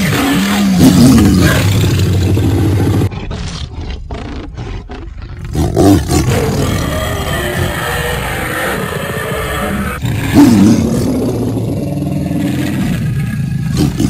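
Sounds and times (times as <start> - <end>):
cartoon lion roaring: 0.0 - 14.0.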